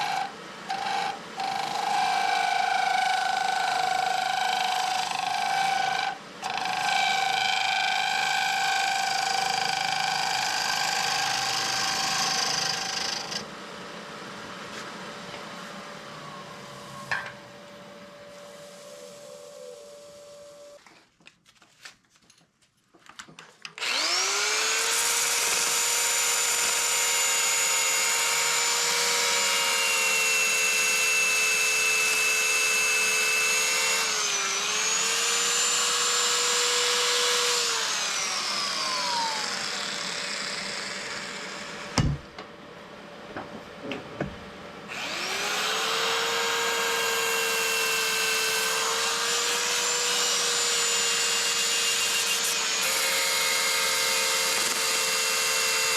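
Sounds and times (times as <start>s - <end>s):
wood lathe motor whining: 0.0s - 13.5s, 15.3s - 20.8s, 23.8s - 42.0s, 44.9s - 55.9s.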